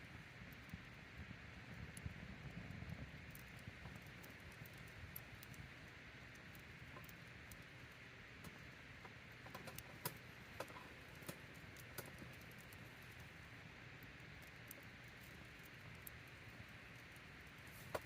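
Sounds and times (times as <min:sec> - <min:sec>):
campfire crackling and popping: 0:00.0 - 0:18.0
faint steady fire hiss: 0:00.0 - 0:18.0.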